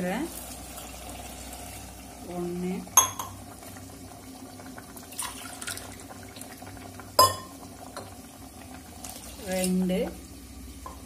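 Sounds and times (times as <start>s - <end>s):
water pouring into pot: 0.0s - 11.0s.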